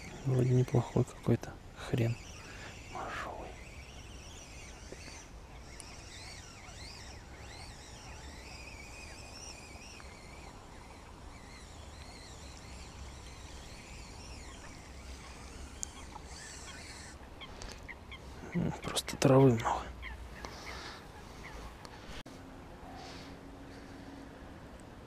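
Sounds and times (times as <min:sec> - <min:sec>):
small birds singing: 0:00.0 - 0:22.2.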